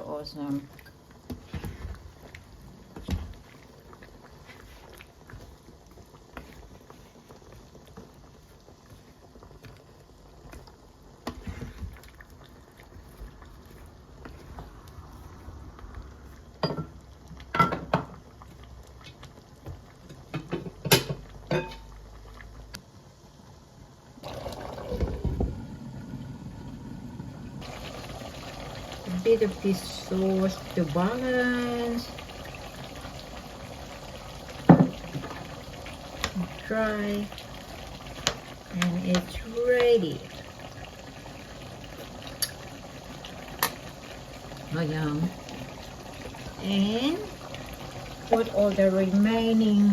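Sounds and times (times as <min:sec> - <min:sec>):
pot of curry bubbling: 0:00.4 - 0:49.9.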